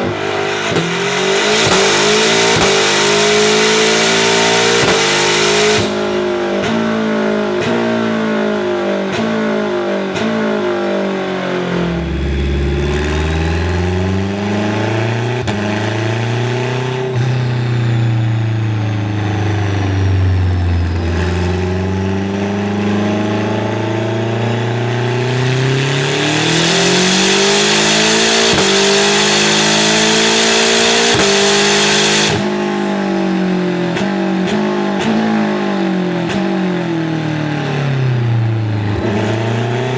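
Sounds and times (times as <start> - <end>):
race engine revving: 0.0 - 39.9.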